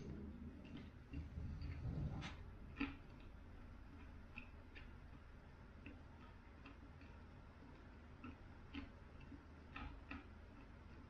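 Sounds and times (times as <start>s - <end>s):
popcorn being chewed: 0.0s - 11.0s.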